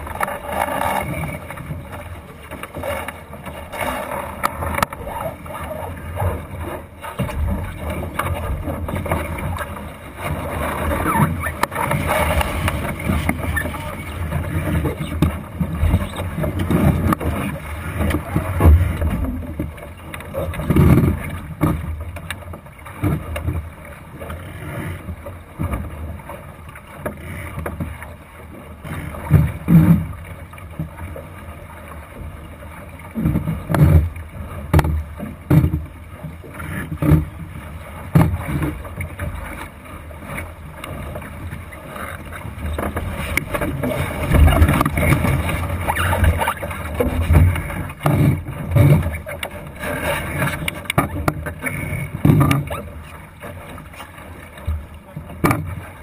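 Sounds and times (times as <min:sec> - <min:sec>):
water slapping along hull: 0:00.0 - 0:56.0.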